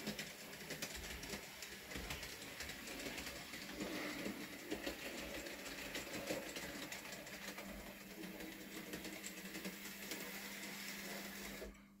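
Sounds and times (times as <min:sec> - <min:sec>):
model train wheels clicking: 0:00.0 - 0:11.8.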